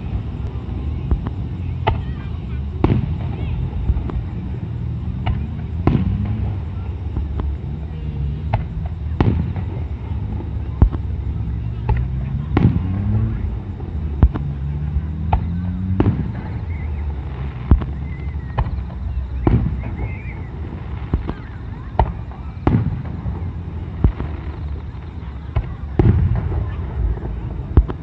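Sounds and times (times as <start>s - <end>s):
fireworks bursts echoing: 0.0s - 28.0s
steady low rumble: 0.0s - 28.0s.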